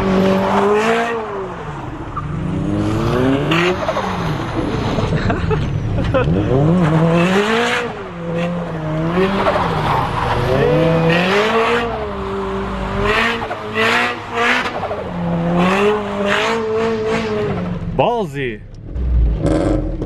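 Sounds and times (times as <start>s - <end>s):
car engine revving: 0.0s - 20.0s
tyres skidding and squealing: 0.0s - 20.0s.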